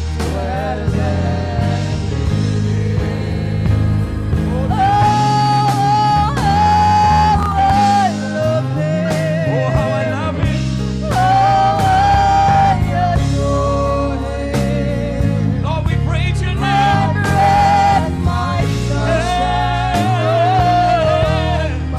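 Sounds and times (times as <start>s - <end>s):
band with bass guitar and drums: 0.0s - 21.9s
person singing with vibrato: 0.2s - 21.9s.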